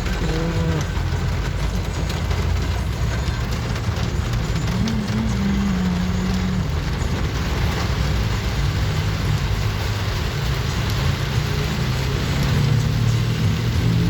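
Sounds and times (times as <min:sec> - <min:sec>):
heavy rain hiss: 0:00.0 - 0:14.0
low engine hum: 0:00.0 - 0:14.0
wet road noise: 0:00.0 - 0:14.0.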